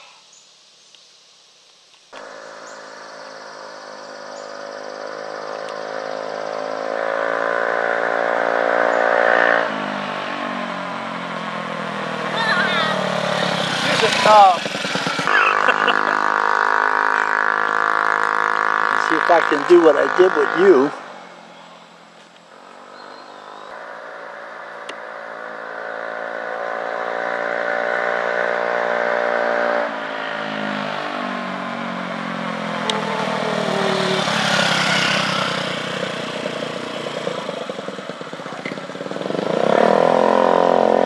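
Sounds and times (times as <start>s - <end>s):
scooter engine approaching: 2.2s - 41.0s.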